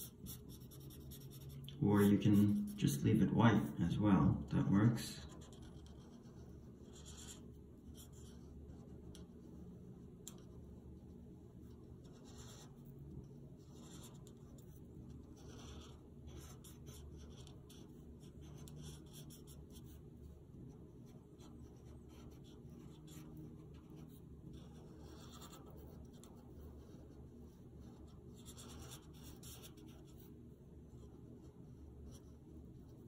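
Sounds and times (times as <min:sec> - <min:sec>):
felt marker scratching on paper: 0:00.0 - 0:03.8, 0:05.2 - 0:09.6, 0:11.6 - 0:33.0
low steady hum: 0:00.0 - 0:33.0.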